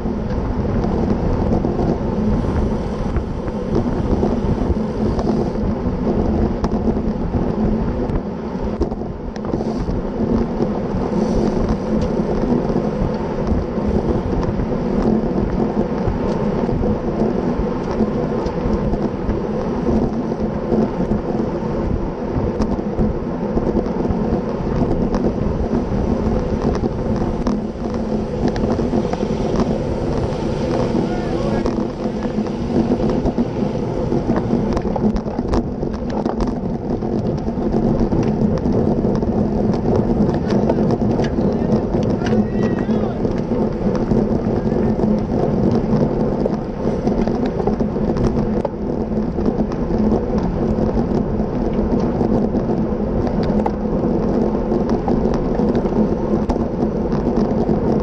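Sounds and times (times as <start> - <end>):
bicycle tyres hissing on asphalt: 0.0 - 58.0
wind rush on microphone: 0.0 - 58.0.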